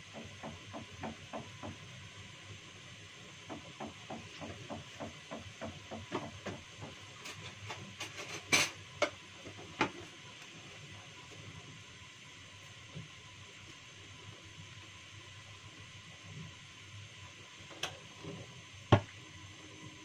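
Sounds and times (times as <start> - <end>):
soup boiling in a saucepan: 0.0 - 20.0
steady hiss of gas stove: 0.0 - 20.0.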